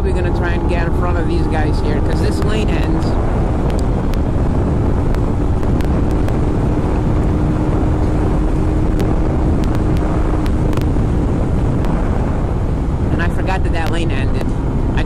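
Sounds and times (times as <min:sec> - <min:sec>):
motorcycle engine drone: 0:00.0 - 0:15.0
wind rush on microphone: 0:00.0 - 0:15.0.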